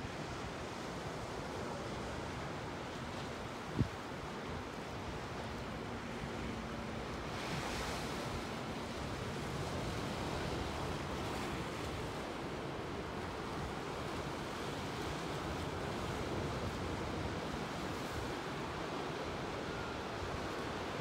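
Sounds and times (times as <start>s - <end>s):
waves breaking on rocky shore: 0.8s - 21.0s.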